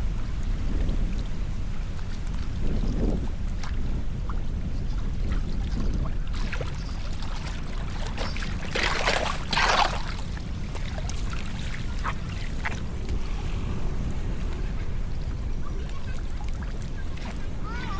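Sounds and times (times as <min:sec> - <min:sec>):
steady low rumble: 0:00.0 - 0:17.9
water trickling and splashing: 0:00.0 - 0:17.9.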